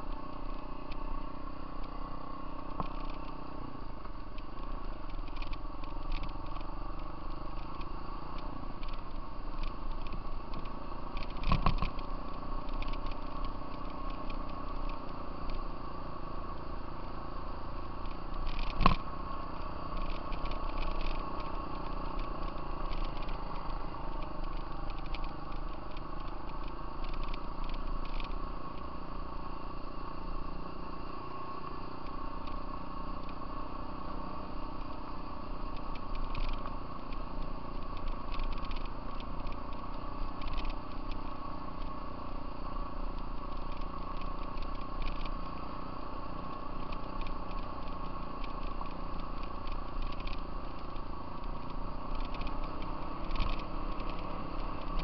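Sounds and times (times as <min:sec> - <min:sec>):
small rattles: 0:00.0 - 0:30.4, 0:31.6 - 0:55.0
gravel crackling under tyres: 0:00.0 - 0:55.0
off-road vehicle engine running: 0:00.0 - 0:55.0.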